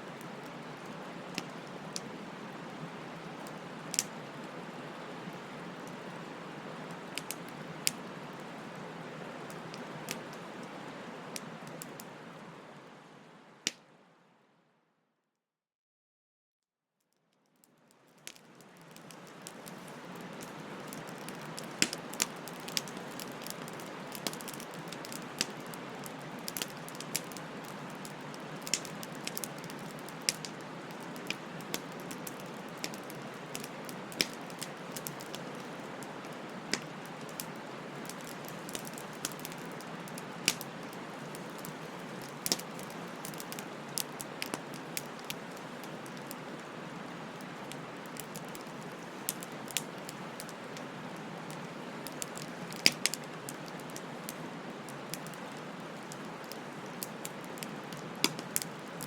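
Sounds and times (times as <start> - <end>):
wood bonfire crackling: 0.0 - 14.0, 17.5 - 59.0.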